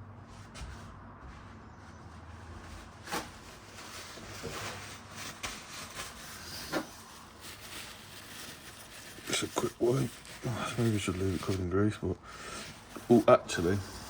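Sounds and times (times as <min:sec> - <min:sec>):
rag rubbing and rustling: 0:02.6 - 0:14.0.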